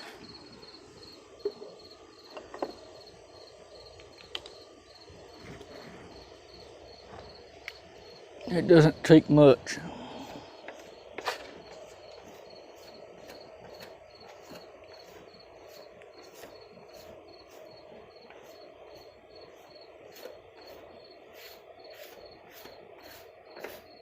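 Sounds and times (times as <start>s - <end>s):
low background hum: 0.0s - 23.9s
cricket chirping: 0.0s - 24.0s.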